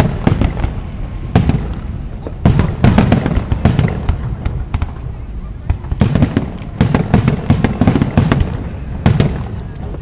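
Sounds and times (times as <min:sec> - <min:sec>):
fireworks bursting with echo: 0:00.0 - 0:10.0.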